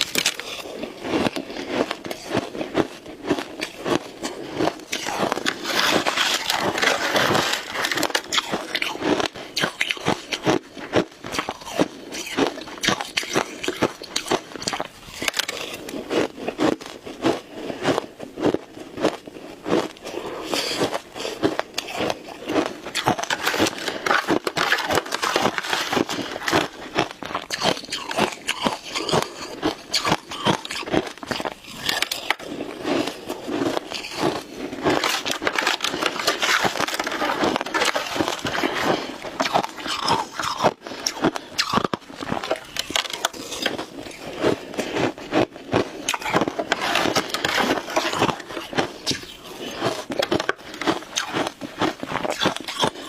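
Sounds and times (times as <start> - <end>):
shaved ice being chewed: 0.0 - 53.0.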